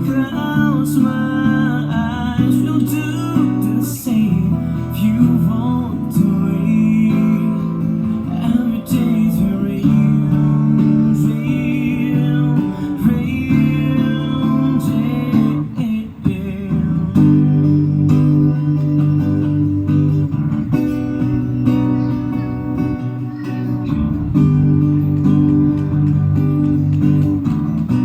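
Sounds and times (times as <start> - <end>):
person singing: 0.0 - 19.5, 20.9 - 28.0
acoustic guitar strumming: 0.0 - 28.0.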